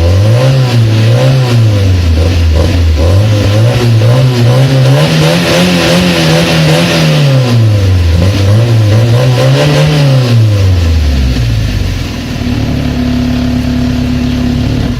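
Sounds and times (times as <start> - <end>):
car engine revving and idling: 0.0 - 14.9.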